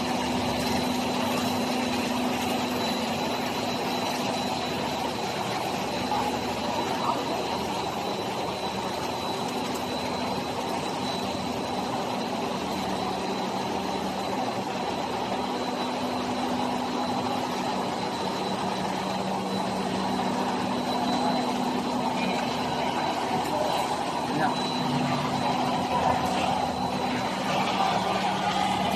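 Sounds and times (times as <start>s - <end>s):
high-pitched whine: 0.0s - 28.9s
motors and fans humming: 0.0s - 28.9s.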